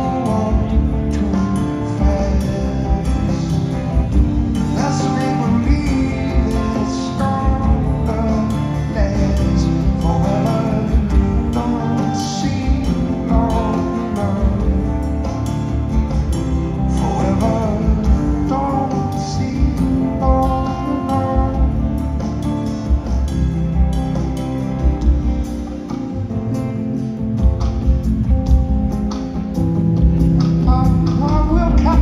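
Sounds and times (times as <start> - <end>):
acoustic guitar strumming: 0.0 - 32.0
drums: 0.0 - 32.0
electric bass: 0.0 - 32.0.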